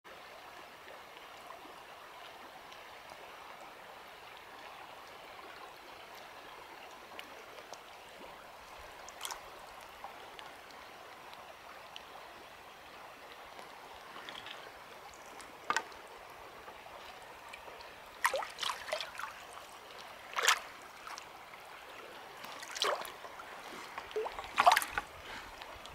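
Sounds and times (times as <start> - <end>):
stream running over gravel: 0.1 - 25.9.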